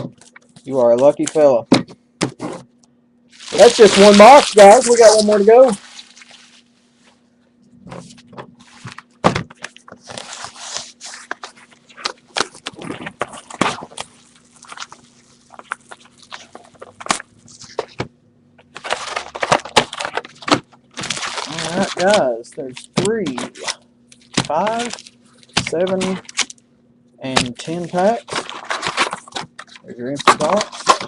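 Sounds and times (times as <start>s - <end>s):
faint steady hum: 0.0s - 31.0s
card packs rustling: 3.3s - 7.2s, 8.0s - 26.6s, 27.3s - 31.0s.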